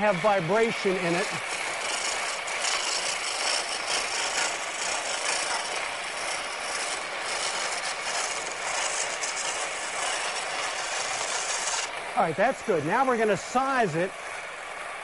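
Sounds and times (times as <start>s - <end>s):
gouge shaving wood on lathe: 0.0s - 15.0s.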